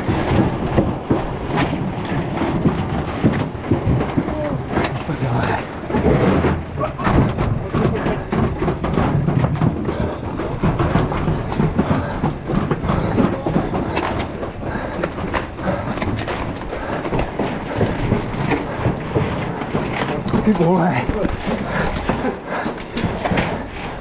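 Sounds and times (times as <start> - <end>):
mountain bike rattling over rough ground: 0.0 - 24.0.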